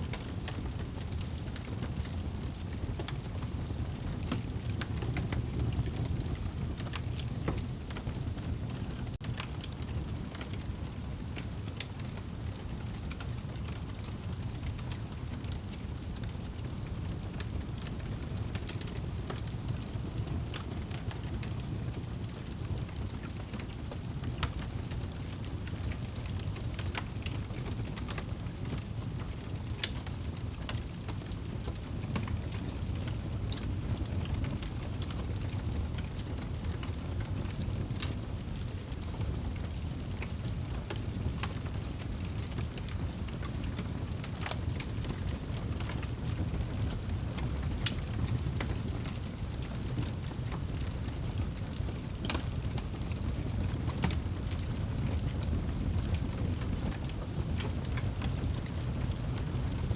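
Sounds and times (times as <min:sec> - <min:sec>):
wood fire crackling in a fireplace: 0:00.0 - 0:59.9.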